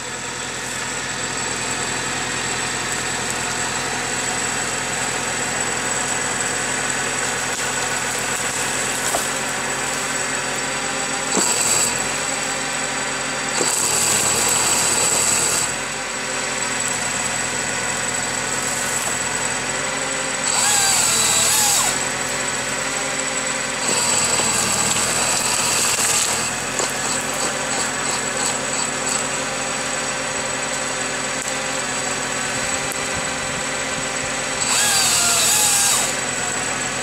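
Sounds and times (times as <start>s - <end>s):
hydraulics surging: 0.0s - 36.7s
tractor diesel engine running: 0.0s - 37.0s.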